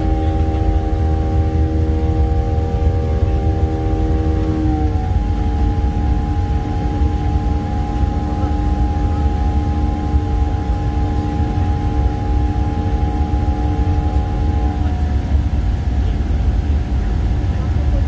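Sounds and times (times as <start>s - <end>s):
airliner engine rumble: 0.0s - 18.0s
humming tones: 0.0s - 18.0s.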